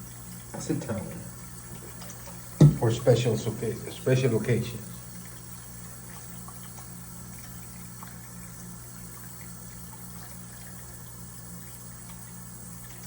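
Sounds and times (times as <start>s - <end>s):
low steady hum: 0.0s - 13.0s
tap water running: 0.0s - 13.0s.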